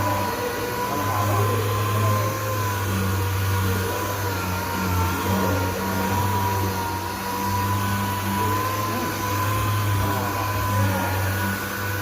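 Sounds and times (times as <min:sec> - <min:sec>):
power sander whirring: 0:00.0 - 0:12.0.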